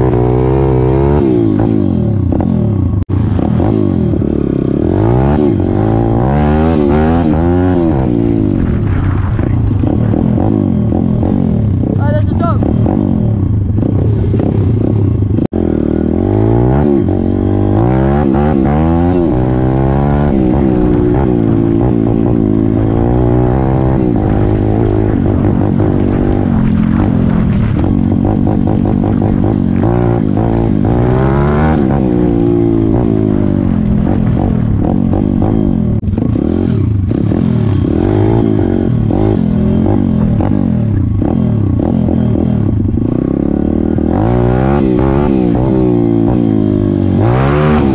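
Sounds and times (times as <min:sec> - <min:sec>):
wind noise: 0:00.0 - 0:47.9.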